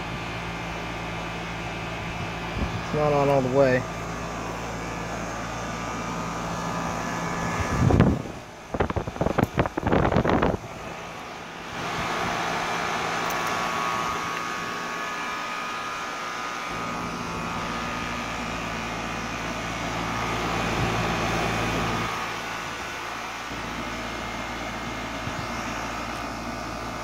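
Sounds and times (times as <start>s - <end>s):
air conditioner fan and compressor humming: 0.0s - 27.0s.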